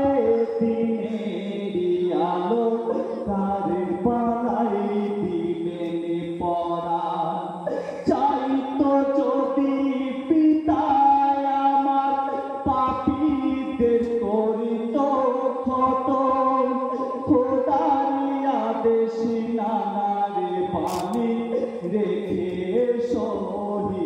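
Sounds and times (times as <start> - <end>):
men chanting in unison: 0.0 - 24.0.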